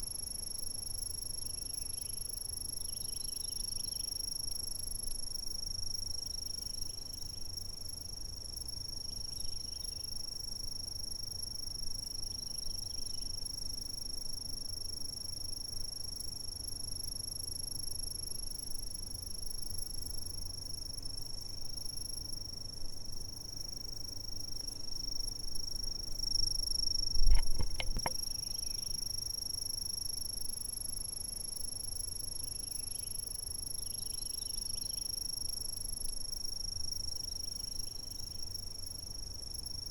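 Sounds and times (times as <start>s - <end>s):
insects trilling: 0.3s - 39.9s.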